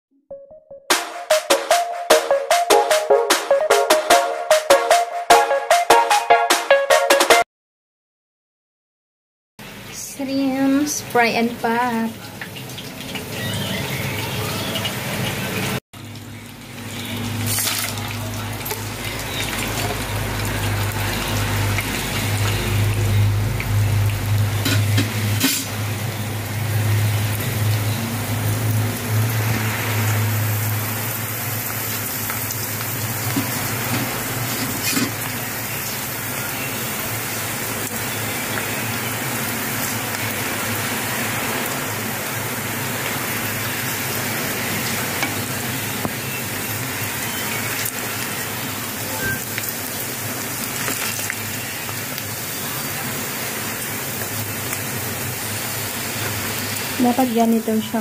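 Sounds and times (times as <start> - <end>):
chips sizzling in hot oil: 10.3 - 58.0.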